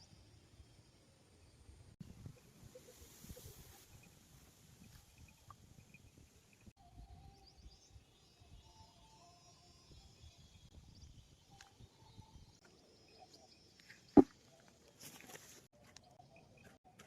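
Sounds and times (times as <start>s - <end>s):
faint insect calls: 0.0s - 15.3s.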